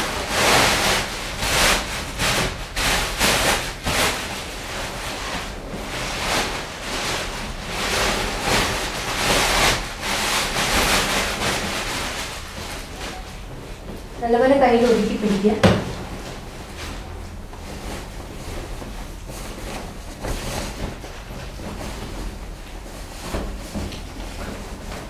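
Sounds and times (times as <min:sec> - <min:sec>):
plastic coverall rustling: 0:00.0 - 0:25.0.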